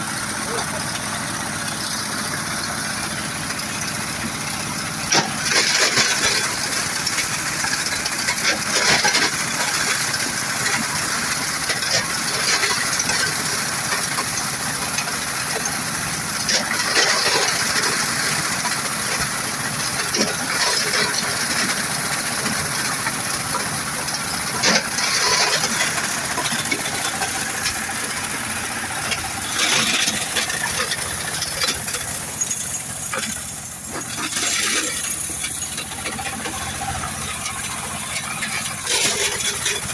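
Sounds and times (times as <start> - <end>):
stone-crushing machine running: 0.0 - 39.9.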